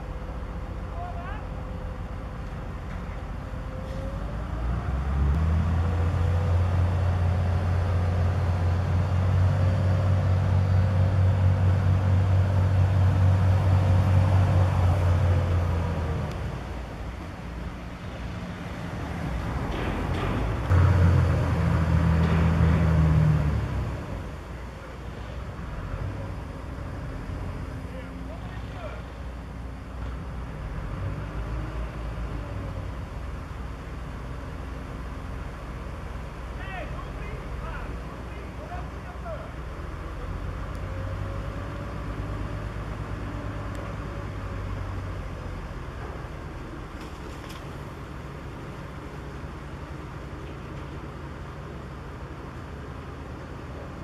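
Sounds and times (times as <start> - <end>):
heavy machinery engine droning: 0.0 - 54.0.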